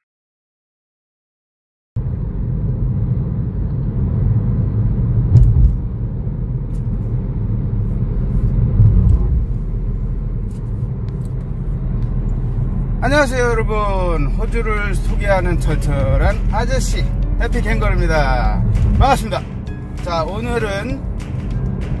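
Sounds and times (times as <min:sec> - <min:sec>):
car driving rumble inside cabin: 0:02.0 - 0:22.0.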